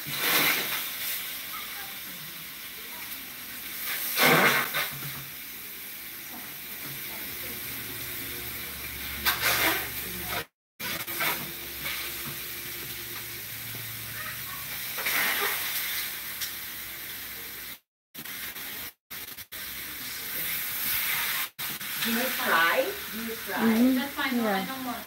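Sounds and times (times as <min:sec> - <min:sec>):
chicken sizzling in pan: 0:00.0 - 0:25.0.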